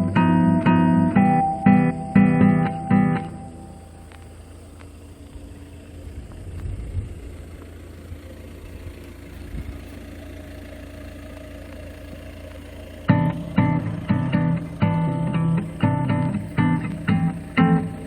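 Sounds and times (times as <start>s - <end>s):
faint hum: 0.0s - 9.8s, 13.1s - 18.0s
steady low rumble: 0.0s - 11.2s, 13.0s - 18.0s.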